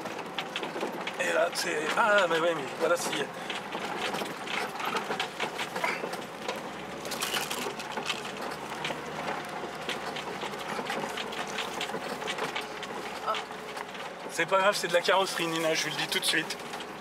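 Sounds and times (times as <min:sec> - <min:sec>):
body rattles and knocks: 0:00.0 - 0:17.0
vehicle engine running: 0:00.0 - 0:17.0.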